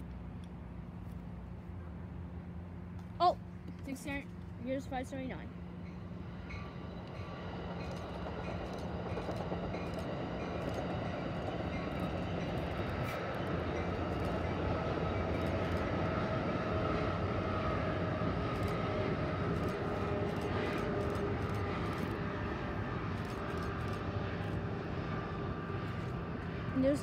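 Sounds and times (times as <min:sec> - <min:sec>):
train rumbling over bridge: 0:00.0 - 0:27.0.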